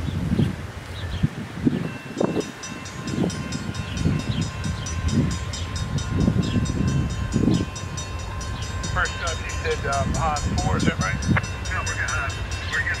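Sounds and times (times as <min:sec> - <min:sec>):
train approaching: 0:01.8 - 0:13.0.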